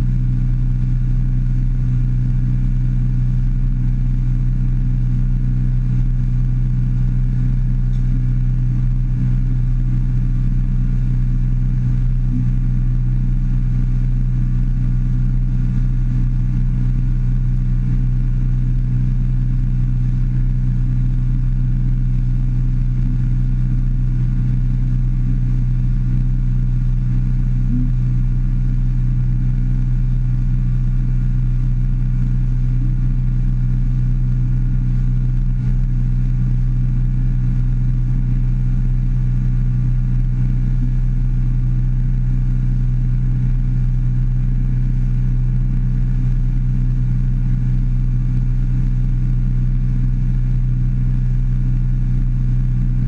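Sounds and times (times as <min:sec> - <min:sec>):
outboard motor running: 0:00.0 - 0:46.6.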